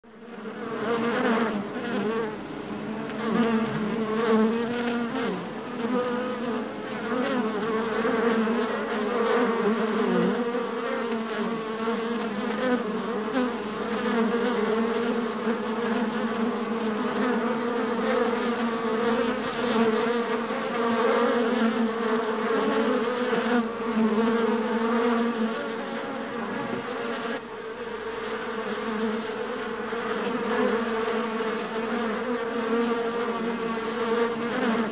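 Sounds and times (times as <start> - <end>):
honeybees buzzing: 0.1 - 34.9.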